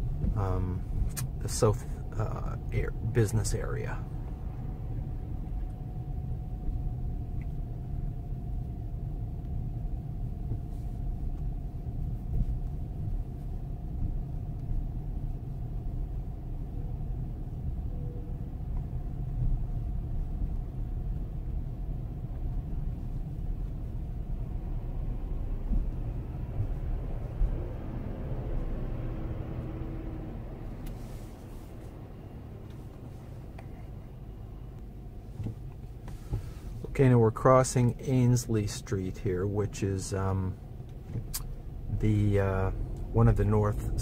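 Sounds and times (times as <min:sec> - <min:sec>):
car road and engine rumble: 0:00.0 - 0:44.0
faint steady tone: 0:00.0 - 0:44.0.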